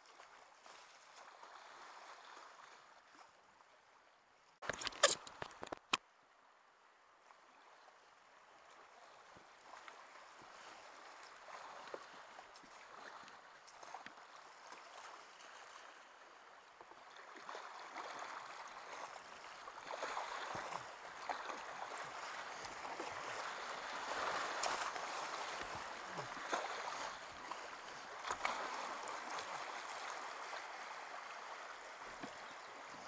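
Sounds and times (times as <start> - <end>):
paddle splashes: 0.0 - 3.9, 7.2 - 33.0.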